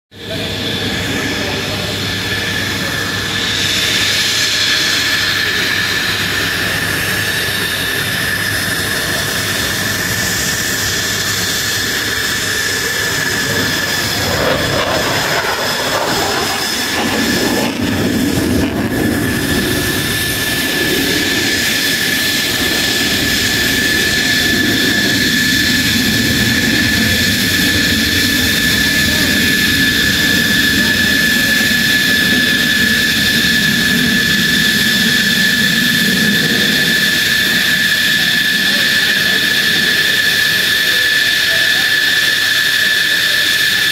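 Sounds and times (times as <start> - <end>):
jet engine whine: 0.1 - 43.9
deep engine rumble: 0.2 - 43.0.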